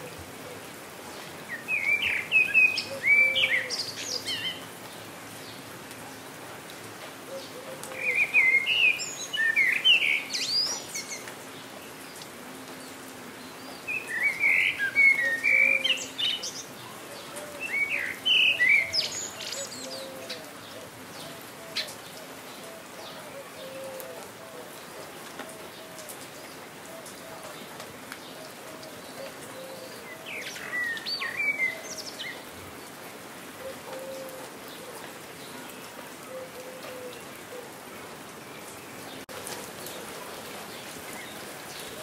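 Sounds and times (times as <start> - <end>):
rain pattering: 0.0 - 42.0
songbird singing: 0.0 - 42.0.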